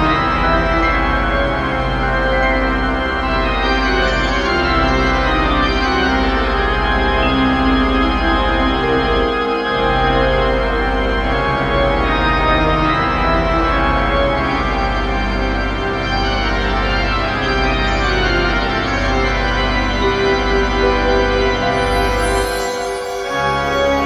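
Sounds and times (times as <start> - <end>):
organ playing sustained chords: 0.0 - 24.0.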